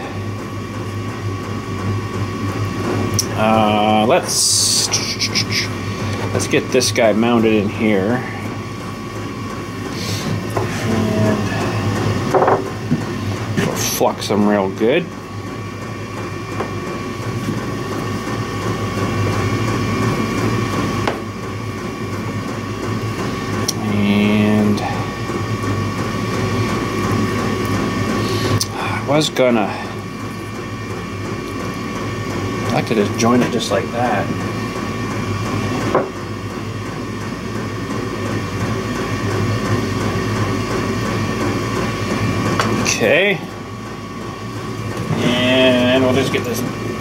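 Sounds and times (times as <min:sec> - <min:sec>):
machine humming and rumbling: 0:00.0 - 0:47.0.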